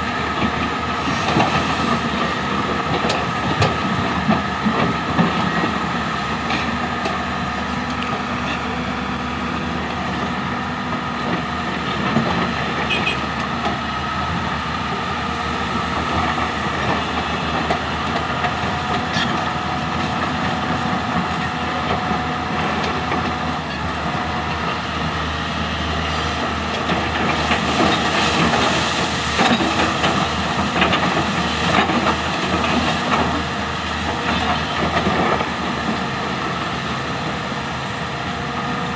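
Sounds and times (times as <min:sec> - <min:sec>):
excavator engine and hydraulics: 0:00.0 - 0:38.9.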